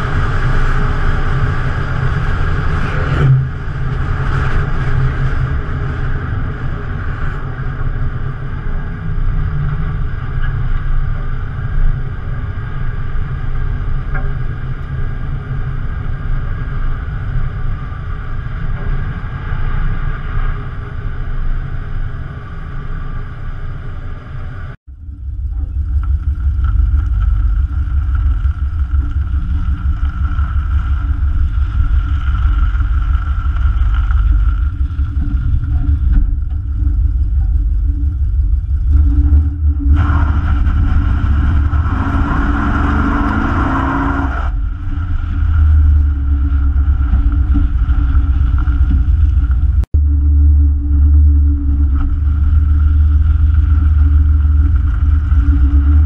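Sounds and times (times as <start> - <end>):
car engine running: 0.0 - 56.0
deep wheel rumble: 0.0 - 56.0
road noise: 0.0 - 56.0.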